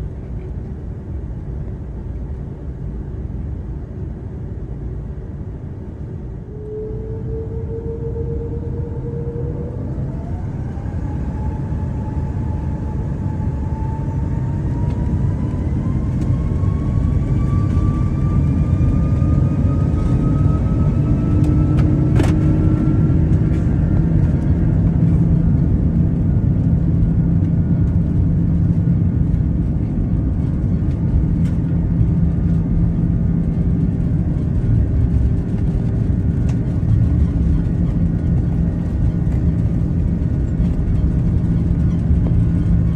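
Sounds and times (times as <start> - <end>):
jet engines rumbling: 0.0 - 42.9
rising engine whine: 0.0 - 42.9.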